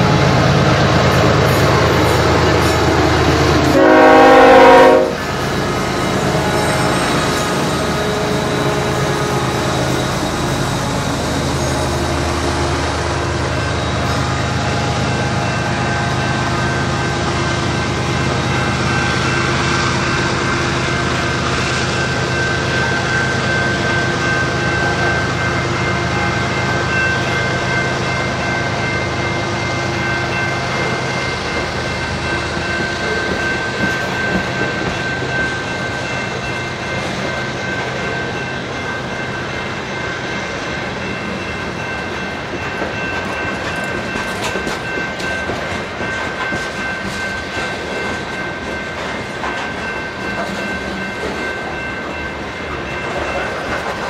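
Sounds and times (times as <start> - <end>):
crossing bell ringing: 0.0 - 54.0
train wheels clattering on rails: 0.0 - 54.0.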